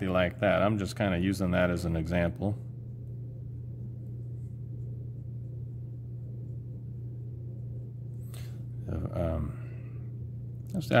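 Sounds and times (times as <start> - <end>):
steady low-pitched hum: 0.0 - 11.0.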